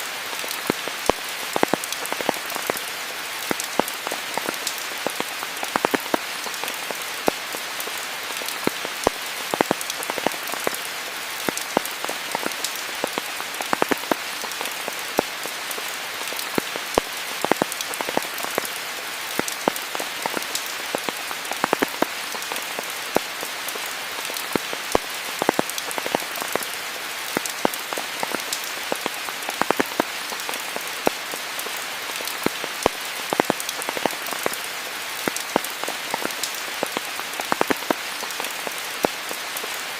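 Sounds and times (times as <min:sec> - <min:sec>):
steady rain falling: 0:00.0 - 0:39.9
raindrop ticks: 0:00.4 - 0:39.8.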